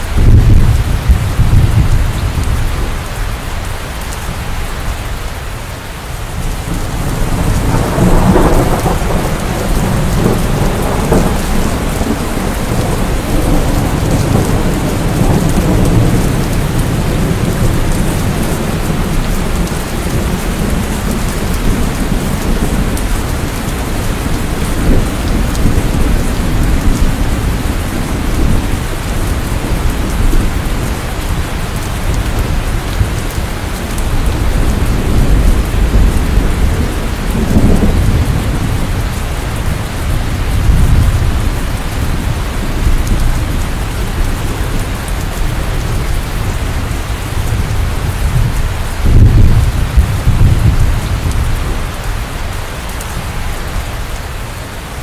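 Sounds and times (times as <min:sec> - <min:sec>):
thunder rolling: 0:00.0 - 0:02.8, 0:06.6 - 0:52.1
heavy rain: 0:00.0 - 0:55.0.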